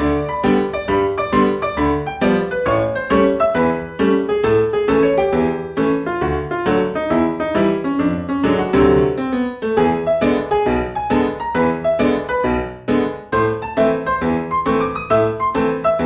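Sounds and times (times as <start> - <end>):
piano playing: 0.0 - 16.0.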